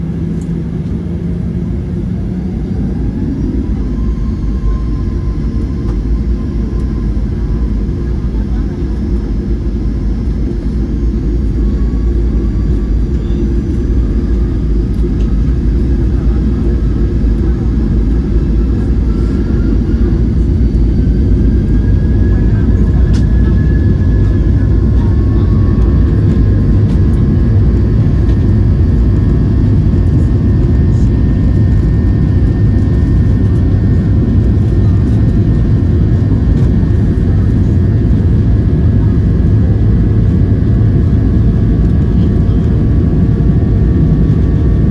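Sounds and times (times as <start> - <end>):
jet engines rumbling in cabin: 0.0 - 44.9.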